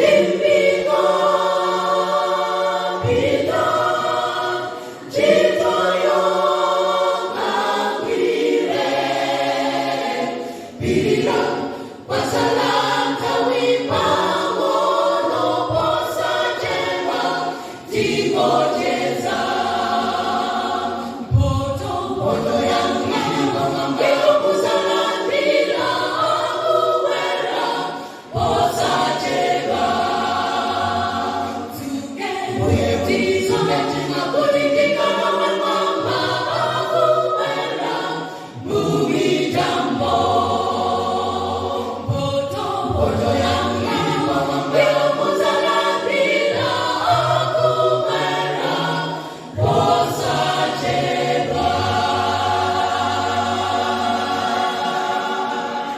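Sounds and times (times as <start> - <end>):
choir singing a cappella: 0.0 - 55.9.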